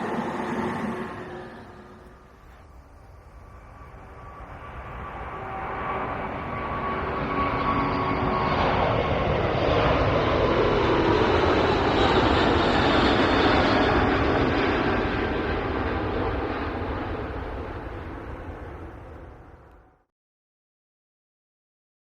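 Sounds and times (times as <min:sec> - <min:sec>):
jet airliner engine roar: 0:00.0 - 0:20.1
steady engine whine: 0:00.0 - 0:20.1.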